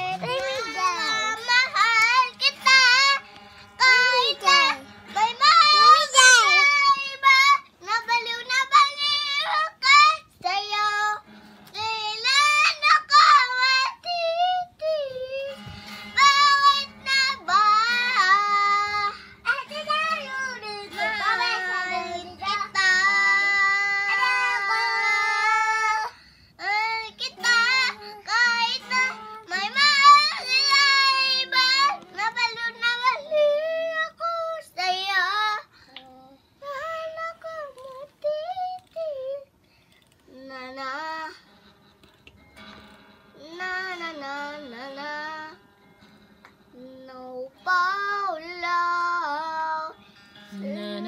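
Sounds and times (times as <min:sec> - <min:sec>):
girl singing in a high voice: 0:00.0 - 0:39.6, 0:40.2 - 0:41.5, 0:43.3 - 0:45.7, 0:46.7 - 0:51.0.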